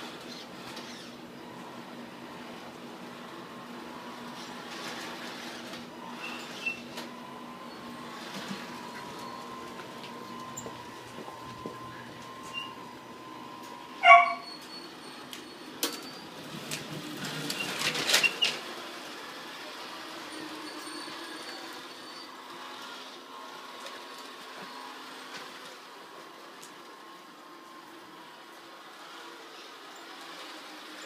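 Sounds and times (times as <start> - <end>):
high electric motor whine: 0.0 - 31.0.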